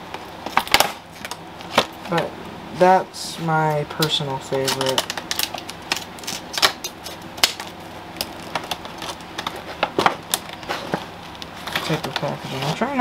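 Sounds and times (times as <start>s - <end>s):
plastic packaging crackling: 0.1s - 2.3s, 3.9s - 13.0s.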